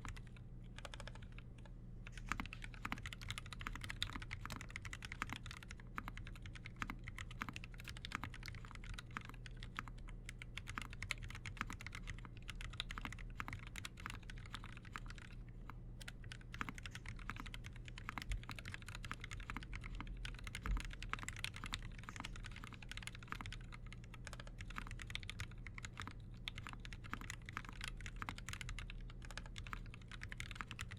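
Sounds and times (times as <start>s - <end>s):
mechanical keyboard typing: 0.0s - 30.9s.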